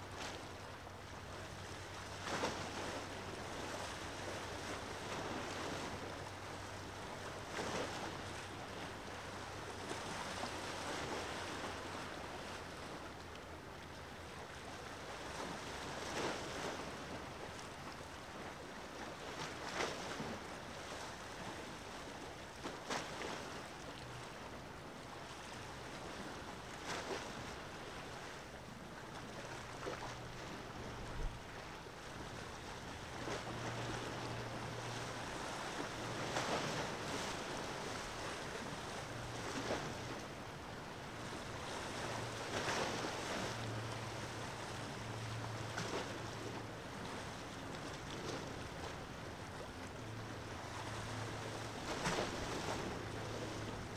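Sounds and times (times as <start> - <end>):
sea waves washing on shore: 0.0 - 53.9.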